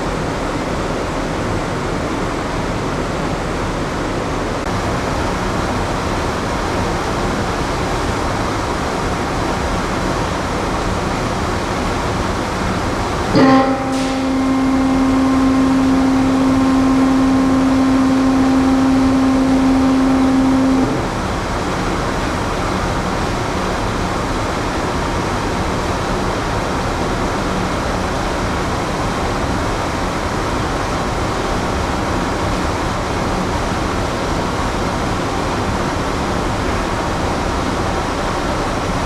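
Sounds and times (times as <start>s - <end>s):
ship ventilation drone: 0.0s - 39.0s.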